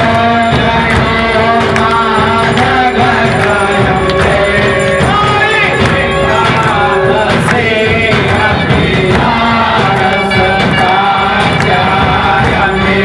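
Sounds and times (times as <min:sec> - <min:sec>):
group singing devotional song: 0:00.0 - 0:13.0
percussion keeping time: 0:00.0 - 0:13.0.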